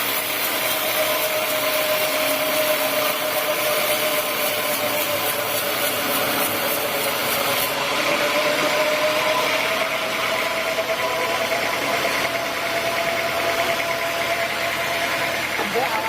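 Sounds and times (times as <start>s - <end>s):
sawmill machinery whining: 0.0s - 16.0s.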